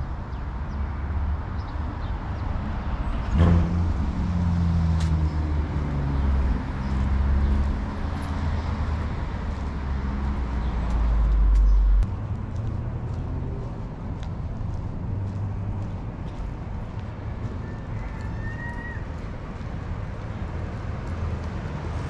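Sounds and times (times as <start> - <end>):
vehicle passing by: 2.4 - 22.0.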